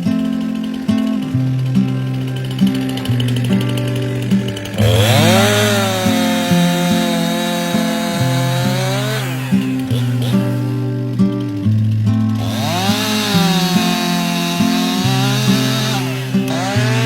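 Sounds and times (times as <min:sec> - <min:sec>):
chainsaw revving: 0:00.0 - 0:17.0
music with guitar and bass: 0:00.0 - 0:17.0.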